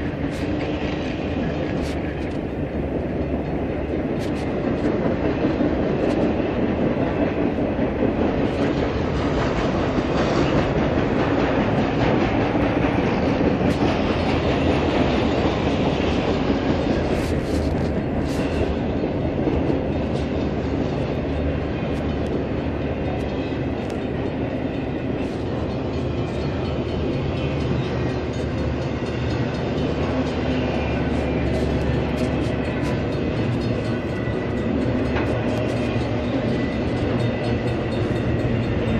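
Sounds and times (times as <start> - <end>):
train rumbling on track: 0.0 - 38.9
wheels clicking on rails: 0.0 - 38.9.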